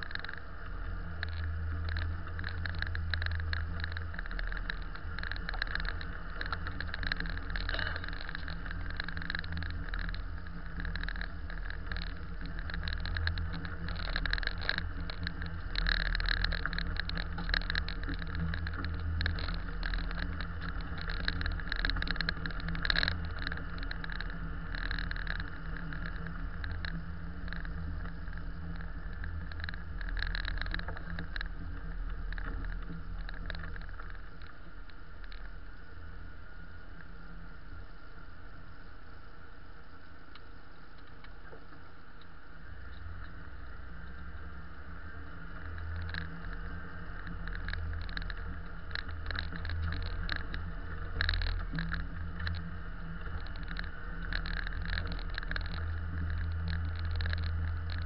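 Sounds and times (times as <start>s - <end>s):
tyres crackling on packed snow: 0.0s - 58.0s
vehicle engine and cabin drone: 0.0s - 58.0s.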